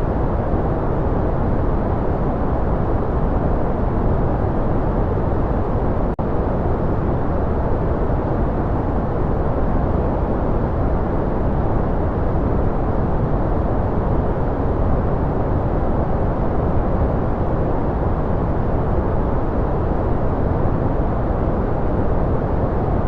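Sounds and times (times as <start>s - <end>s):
deep white noise: 0.0s - 23.0s.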